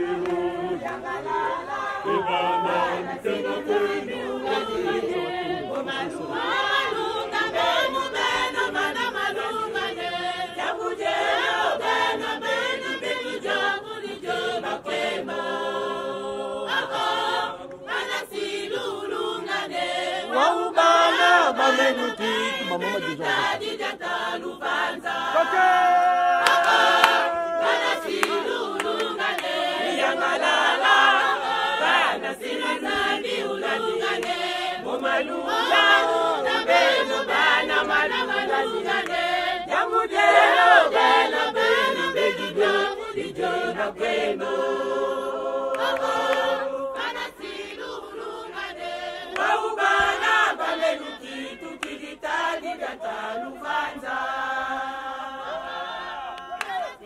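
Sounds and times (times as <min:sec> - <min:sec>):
women singing in chorus: 0:00.0 - 0:57.0.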